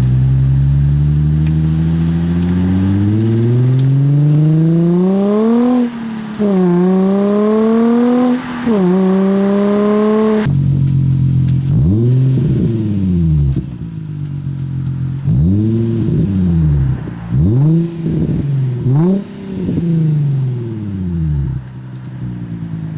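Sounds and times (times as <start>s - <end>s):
car engine accelerating with upshifts: 0.0s - 22.9s
car engine idling: 0.0s - 22.9s
engine throttle blips: 0.0s - 22.9s.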